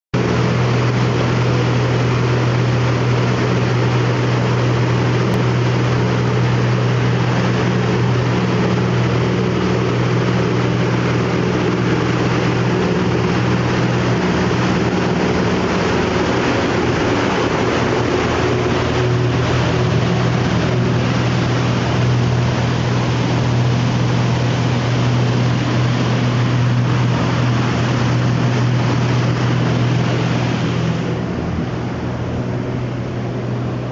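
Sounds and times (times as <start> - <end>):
outboard motors humming: 0.2 - 33.9
rush of boat wake: 0.2 - 33.9.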